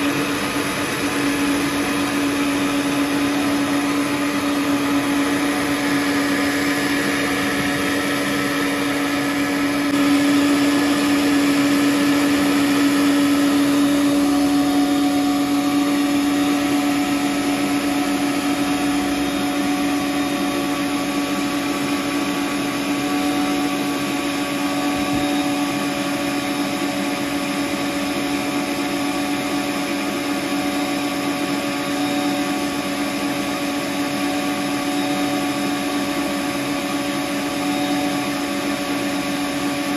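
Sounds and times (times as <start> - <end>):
stand mixer whisking: 0.0 - 39.9.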